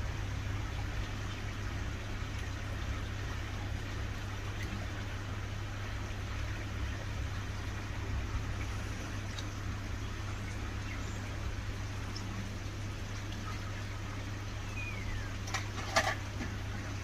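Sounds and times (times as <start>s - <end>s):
filter water hiss: 0.0s - 17.0s
pond pump humming: 0.0s - 17.0s.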